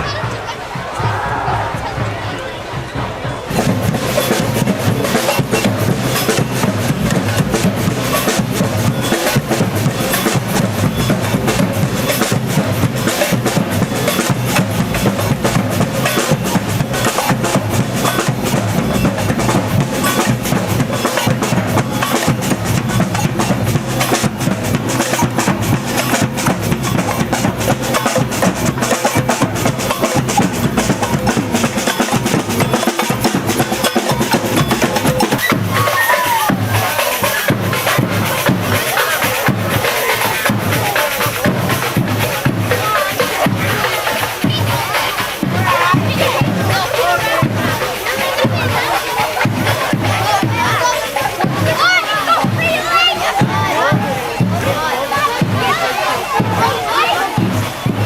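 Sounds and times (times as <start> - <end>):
samba band drumming: 0.0 - 58.0.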